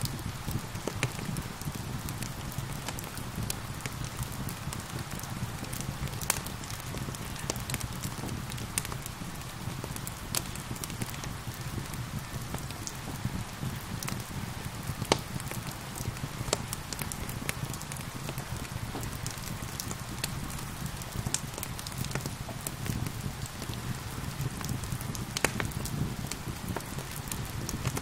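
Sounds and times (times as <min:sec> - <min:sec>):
rain pattering: 0:00.0 - 0:28.0
wood fire crackling: 0:00.0 - 0:28.0.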